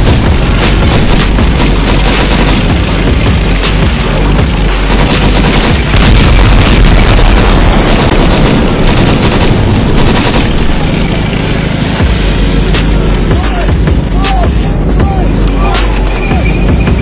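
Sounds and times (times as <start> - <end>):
tank gunfire: 0.0 - 14.2.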